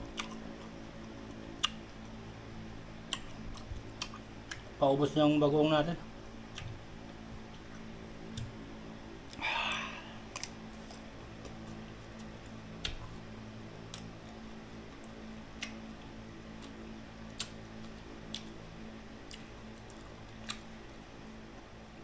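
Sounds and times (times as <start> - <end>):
crunchy chewing: 0.0 - 2.3, 3.0 - 4.8, 6.4 - 21.4
low hum: 0.0 - 22.0.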